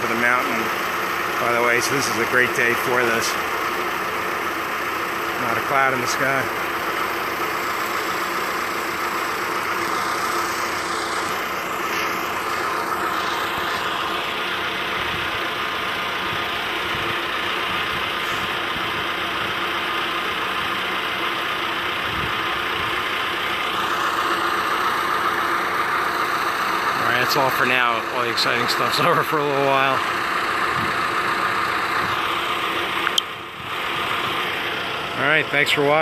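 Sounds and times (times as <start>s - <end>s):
lift engine running: 0.0s - 36.0s.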